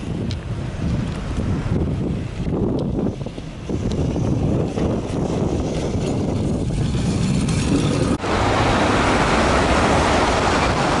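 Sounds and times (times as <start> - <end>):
traffic on snowy street: 0.0 - 11.0
tram rumbling on tracks: 0.0 - 11.0.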